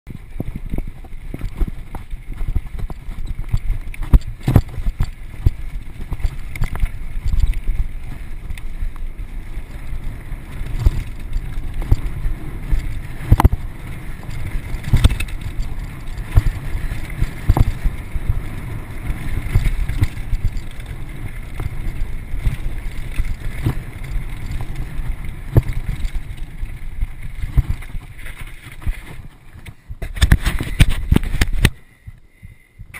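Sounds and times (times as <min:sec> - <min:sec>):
bike suspension knocking and clattering: 0:00.1 - 0:32.2
bike tyres rumbling over dirt: 0:00.1 - 0:32.9.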